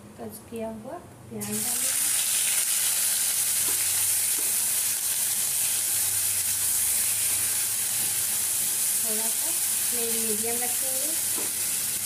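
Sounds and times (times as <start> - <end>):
onion sizzling in hot oil: 1.4 - 12.0.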